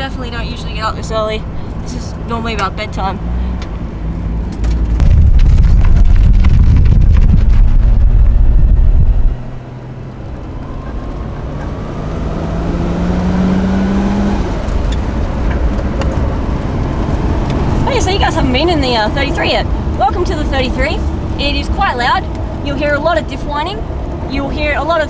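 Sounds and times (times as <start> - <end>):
wind and road noise rumble: 0.0 - 25.0
car whine rising in pitch: 1.5 - 25.0.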